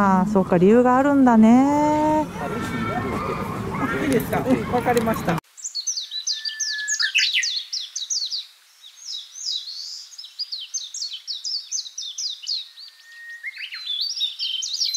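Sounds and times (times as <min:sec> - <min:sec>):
birds chirping and singing: 0:01.7 - 0:14.9.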